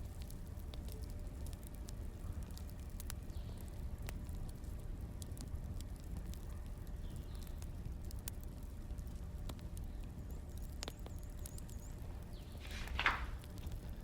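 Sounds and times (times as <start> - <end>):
firewood burning and crackling: 0.0 - 14.0.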